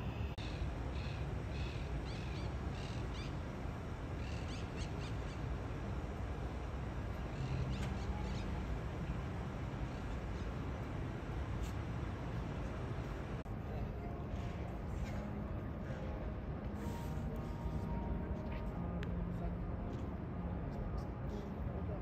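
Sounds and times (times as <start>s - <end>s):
distant city traffic hum: 0.0s - 22.0s.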